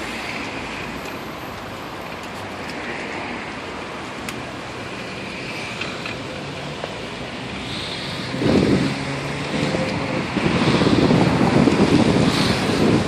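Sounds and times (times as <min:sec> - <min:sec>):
rushing street noise: 0:00.0 - 0:13.0.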